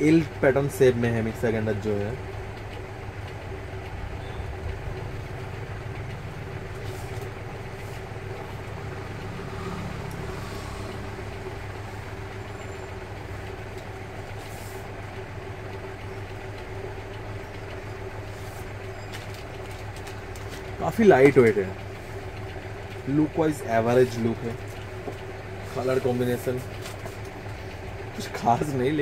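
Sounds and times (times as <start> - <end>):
low machinery rumble and hum: 0.0 - 29.0.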